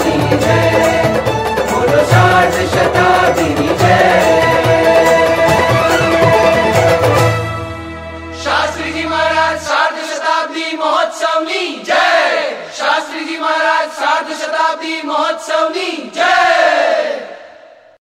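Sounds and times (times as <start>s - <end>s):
group chanting in unison: 0.0s - 5.7s, 8.4s - 17.9s.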